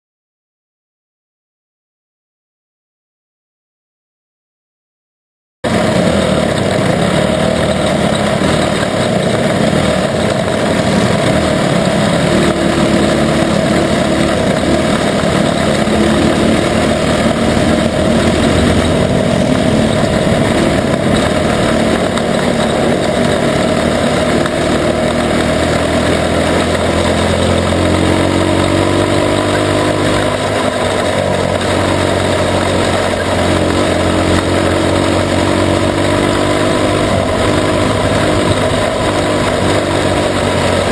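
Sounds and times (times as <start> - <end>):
rush of noise: 5.6 - 40.9
sprint car engine running hard: 5.6 - 40.9.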